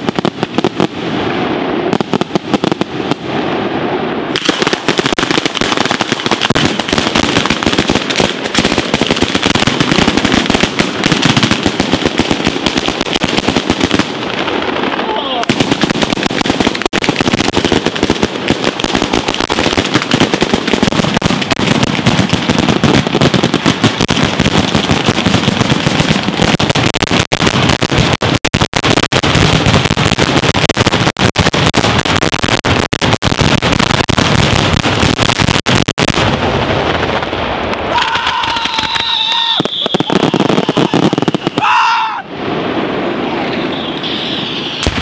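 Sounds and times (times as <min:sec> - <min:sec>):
firecrackers crackling: 0:00.0 - 0:45.0.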